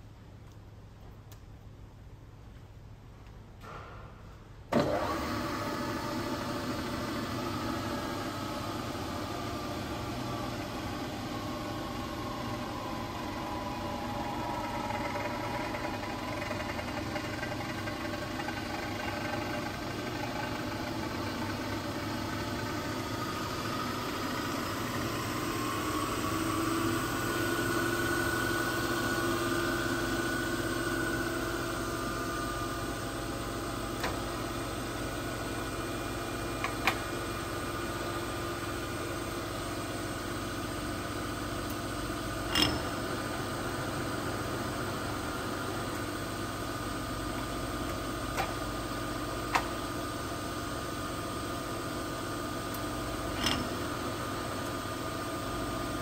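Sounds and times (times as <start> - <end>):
milling machine whining hum: 4.7 - 56.0.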